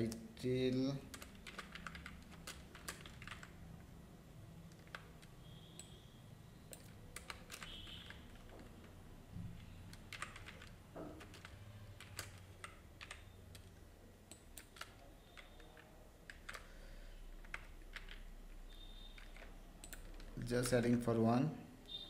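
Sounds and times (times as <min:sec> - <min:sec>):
faint typing on keyboard: 0:00.0 - 0:06.0, 0:06.7 - 0:21.2.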